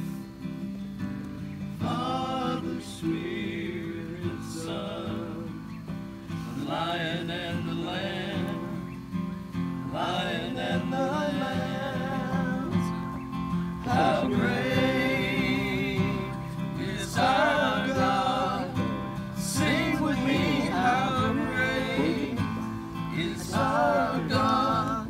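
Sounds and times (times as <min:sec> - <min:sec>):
acoustic guitar strumming: 0:00.0 - 0:25.0
people singing: 0:01.7 - 0:09.2, 0:09.8 - 0:25.0.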